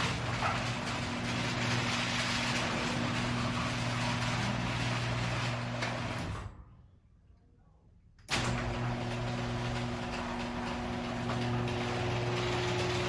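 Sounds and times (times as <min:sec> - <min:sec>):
garage door opener motor hum: 0:00.0 - 0:06.6, 0:08.3 - 0:13.0.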